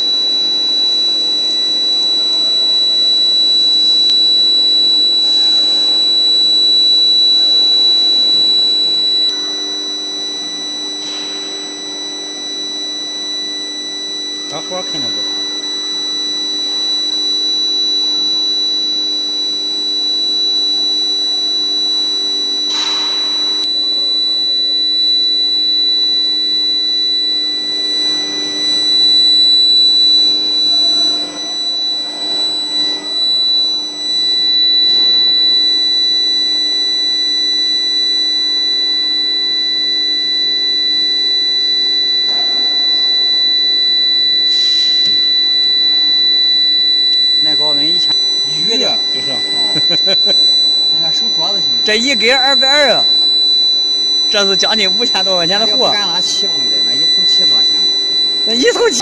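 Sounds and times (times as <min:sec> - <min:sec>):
high-pitched machine whine: 0:00.0 - 0:59.0.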